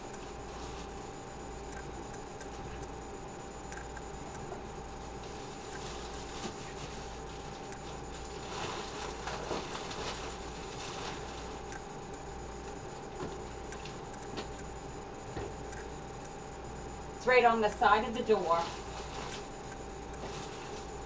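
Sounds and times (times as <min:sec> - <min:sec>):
refrigerator hum: 0:00.0 - 0:21.0.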